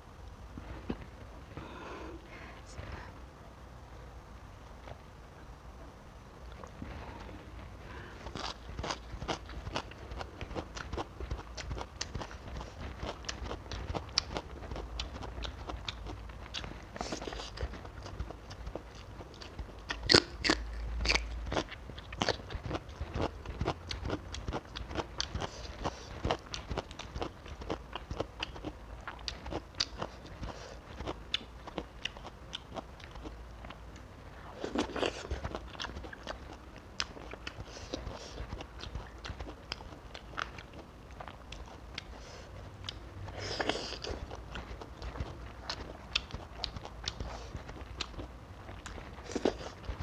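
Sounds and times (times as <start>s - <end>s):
chewing and crunching food: 0.5s - 2.1s, 6.4s - 50.0s.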